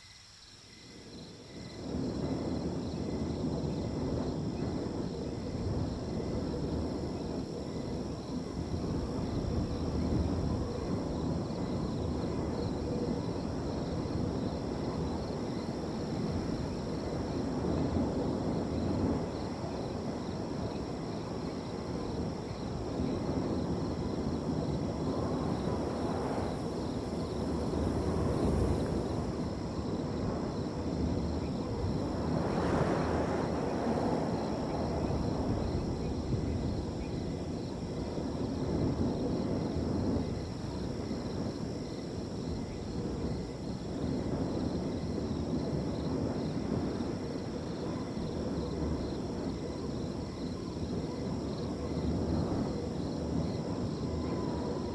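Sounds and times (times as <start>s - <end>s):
crickets trilling: 0.0s - 54.9s
wind gusting through field: 0.0s - 54.9s.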